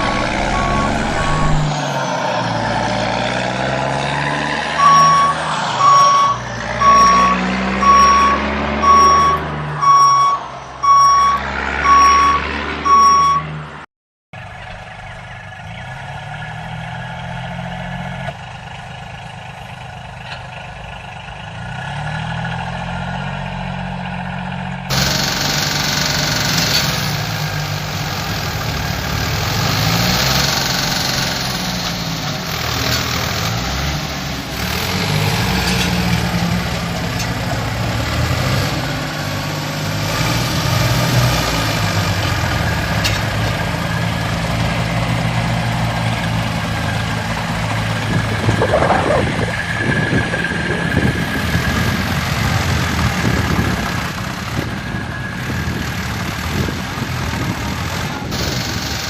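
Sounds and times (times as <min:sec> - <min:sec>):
heavy vehicle engine running: 0:00.0 - 0:59.0.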